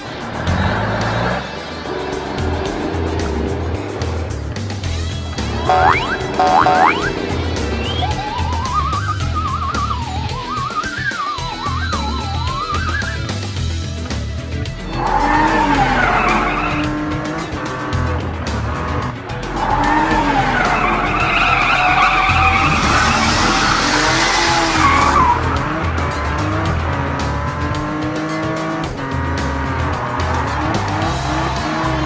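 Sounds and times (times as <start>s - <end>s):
background music with steady beat: 0.0s - 32.0s
cartoon truck engines revving: 0.0s - 32.0s
hissing skid: 0.0s - 32.0s.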